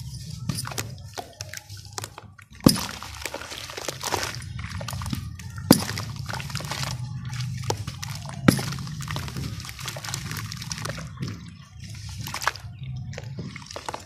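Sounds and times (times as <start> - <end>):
wet squelching and sloshing: 0.0 - 14.0.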